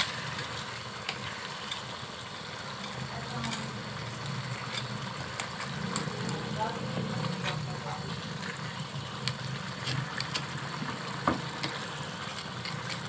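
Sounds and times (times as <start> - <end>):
gravy bubbling and sizzling in a pan: 0.0 - 13.0
wooden spoon stirring: 0.0 - 13.0.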